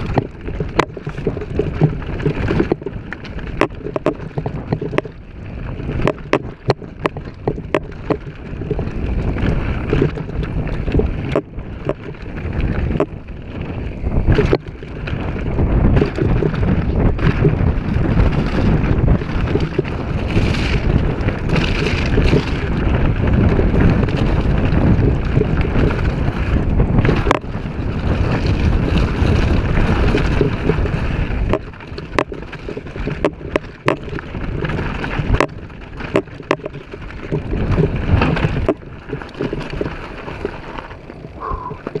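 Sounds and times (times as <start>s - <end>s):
bike knocking and rattling: 0.0s - 42.0s
tyres rolling on gravel: 0.0s - 42.0s
wind buffeting microphone: 0.0s - 42.0s.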